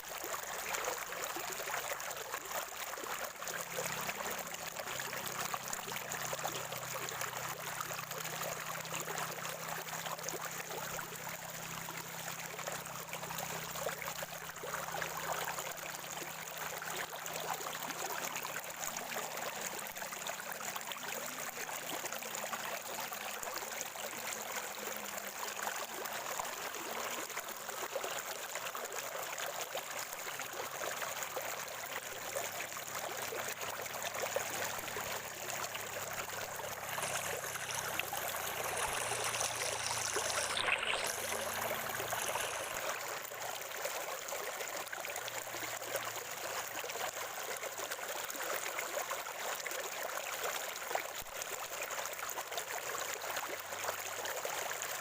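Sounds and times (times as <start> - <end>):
spring water trickling: 0.0 - 28.2, 29.7 - 47.5.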